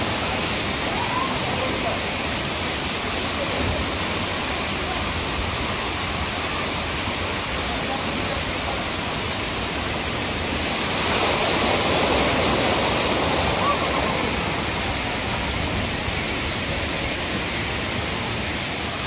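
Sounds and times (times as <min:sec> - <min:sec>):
bucket dumping water cascade: 0:00.0 - 0:19.0
water pouring and splashing: 0:00.0 - 0:19.0.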